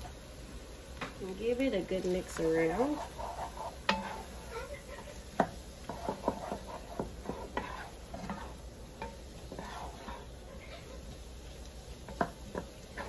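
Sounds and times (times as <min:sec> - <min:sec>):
wooden spoon stirring in a pot: 0:00.0 - 0:13.0.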